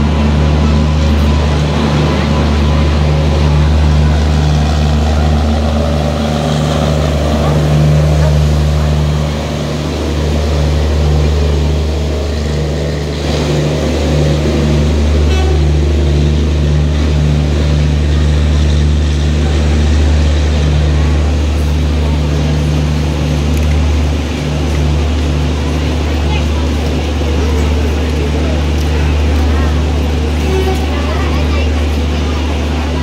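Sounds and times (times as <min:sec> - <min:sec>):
low mechanical drone: 0:00.0 - 0:33.0
train rolling slowly: 0:00.0 - 0:33.0.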